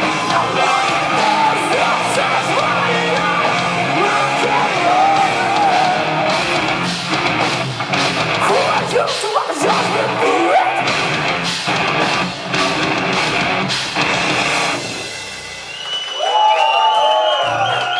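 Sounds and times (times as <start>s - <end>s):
distorted electric guitar: 0.0s - 15.6s
live rock band playing: 0.0s - 15.8s
drum kit: 0.0s - 16.5s.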